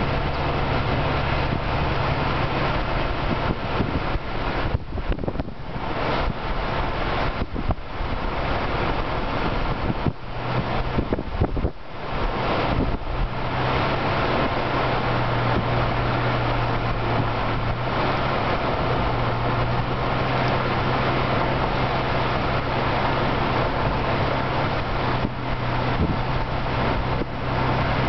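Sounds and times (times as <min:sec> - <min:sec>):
car engine drone: 0:00.0 - 0:28.0
tyre and wind noise: 0:00.0 - 0:28.0.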